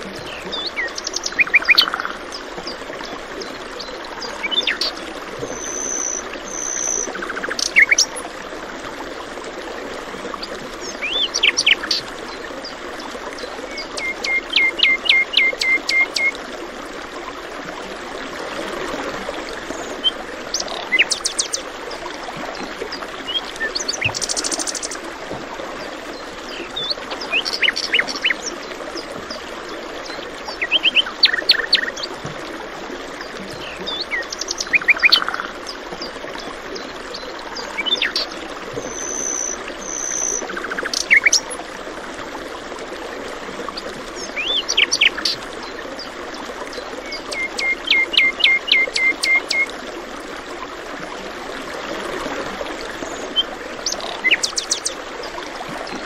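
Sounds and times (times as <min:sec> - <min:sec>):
babbling stream: 0:00.0 - 0:56.0.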